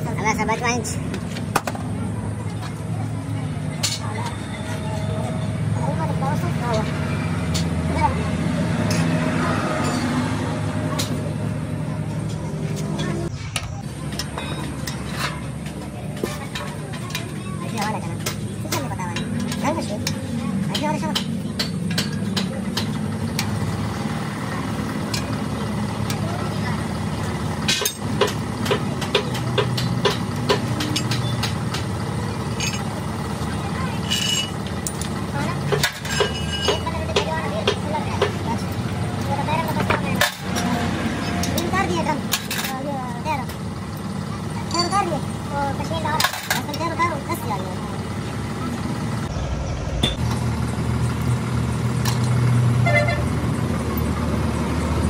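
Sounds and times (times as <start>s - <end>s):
engine idling: 10.6s - 55.0s.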